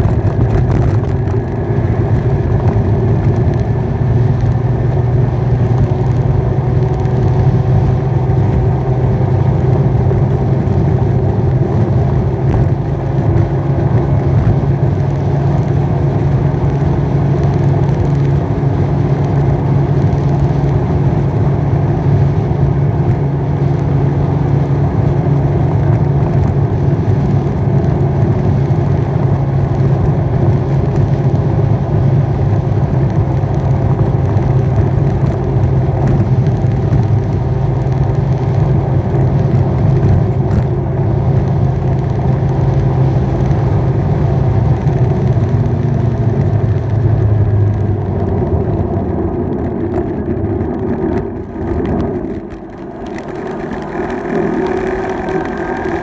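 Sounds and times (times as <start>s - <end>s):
motorbike motor running: 0.0s - 56.0s
road rumble: 0.0s - 56.0s
wind on microphone: 0.0s - 56.0s.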